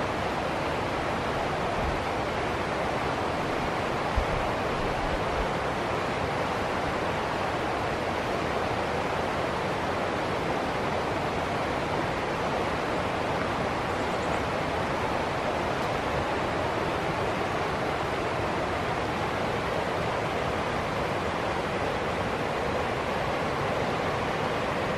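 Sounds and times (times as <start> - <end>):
rocky stream rushing: 0.0 - 24.9.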